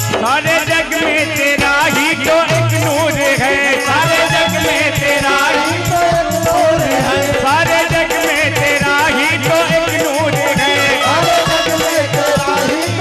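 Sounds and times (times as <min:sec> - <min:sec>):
harmonium: 0:00.0 - 0:13.0
man singing into microphone: 0:00.0 - 0:13.0.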